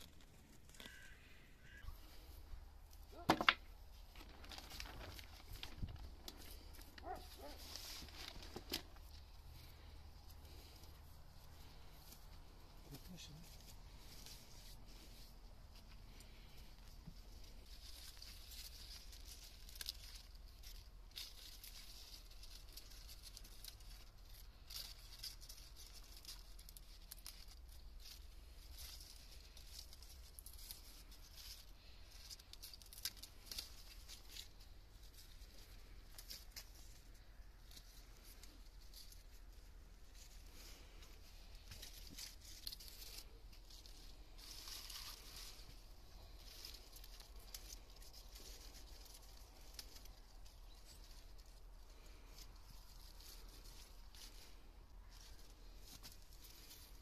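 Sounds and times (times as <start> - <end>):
lettuce leaves rustling and snapping: 0.0 - 1.2, 2.9 - 57.0.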